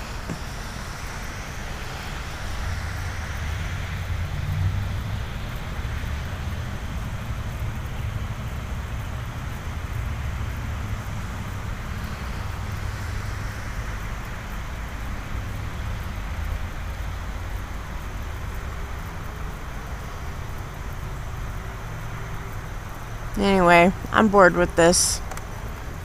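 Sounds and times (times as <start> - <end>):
road traffic rumble: 0.0 - 26.0
vehicle passing by: 0.0 - 26.0.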